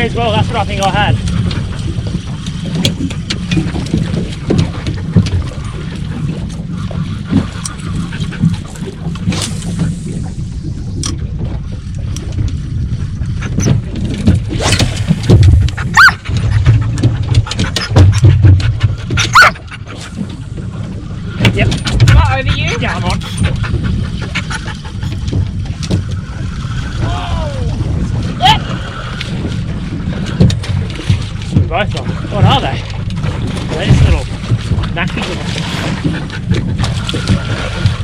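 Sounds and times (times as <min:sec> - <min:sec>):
wind and water rumble: 0:00.0 - 0:38.0.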